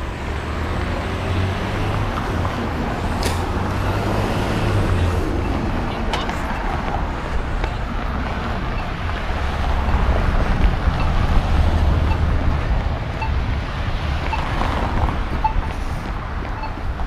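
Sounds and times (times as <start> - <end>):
street traffic hiss: 0.0 - 17.0.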